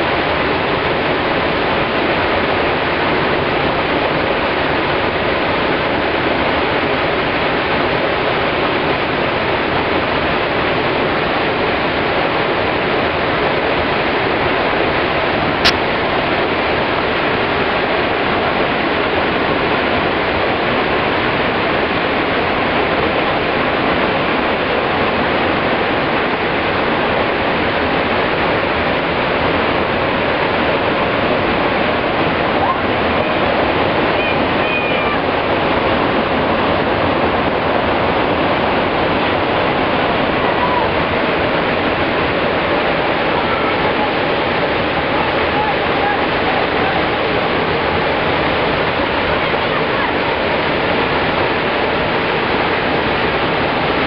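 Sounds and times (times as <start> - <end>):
waterfall crashing onto rocks: 0.0 - 54.0.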